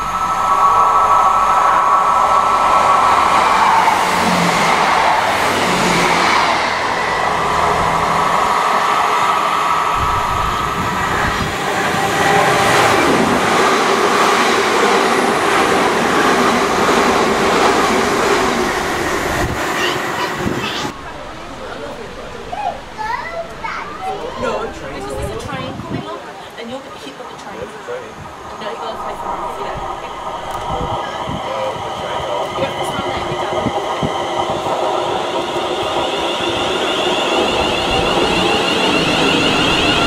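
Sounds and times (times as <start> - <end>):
passenger train running on rails: 0.0 - 40.0
train whine: 0.0 - 40.0.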